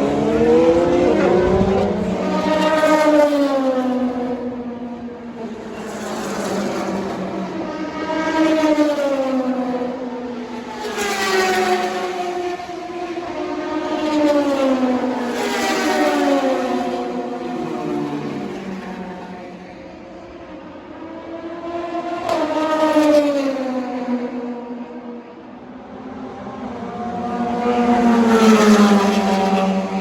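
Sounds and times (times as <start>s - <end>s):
race cars passing at high revs: 0.0s - 30.0s.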